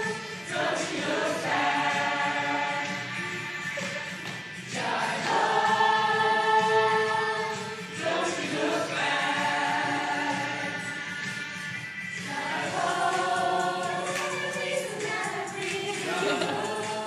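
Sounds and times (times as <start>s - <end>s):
group singing in chorus: 0.0s - 11.6s, 12.2s - 17.0s.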